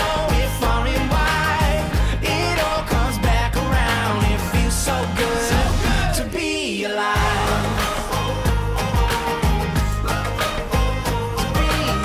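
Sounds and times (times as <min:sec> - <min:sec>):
music with deep thumping beat: 0:00.0 - 0:06.3, 0:07.2 - 0:12.0.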